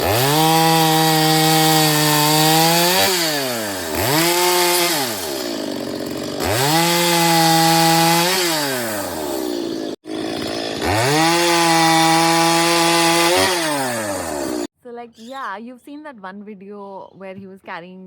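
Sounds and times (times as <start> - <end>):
chainsaw engine revving: 0.0 - 14.7.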